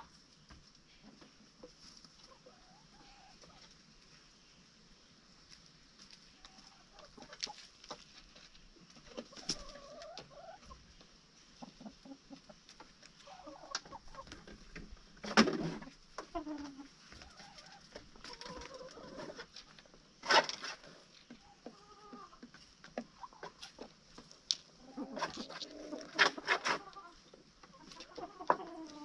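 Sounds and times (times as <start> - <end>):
chickens clucking: 0.0 - 4.6, 5.4 - 29.0.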